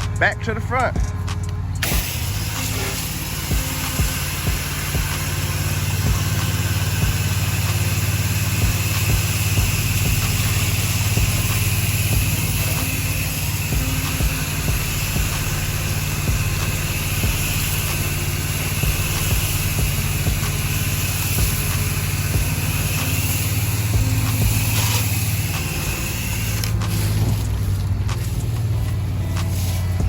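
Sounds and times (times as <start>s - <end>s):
small engine running: 0.0s - 30.0s
hiss of water spray: 1.8s - 30.0s.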